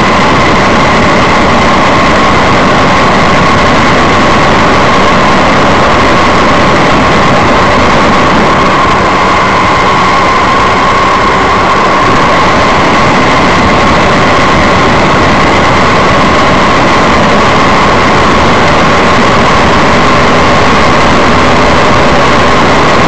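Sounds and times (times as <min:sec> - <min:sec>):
microlight engine and propeller: 0:00.0 - 0:23.0
wind rush: 0:00.0 - 0:23.0.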